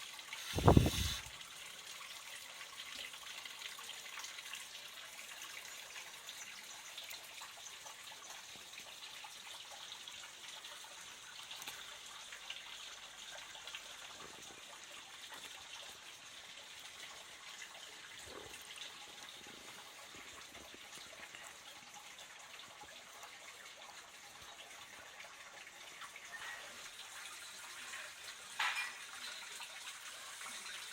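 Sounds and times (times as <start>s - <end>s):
water trickling in a stream: 0.0s - 30.9s.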